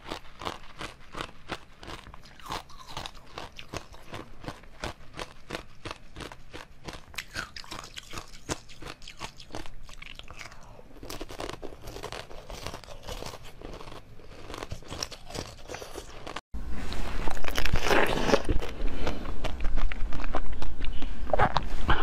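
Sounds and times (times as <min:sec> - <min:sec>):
jelly sweet crunching: 0:00.0 - 0:16.4, 0:17.2 - 0:21.6
soft chewing: 0:00.0 - 0:22.0.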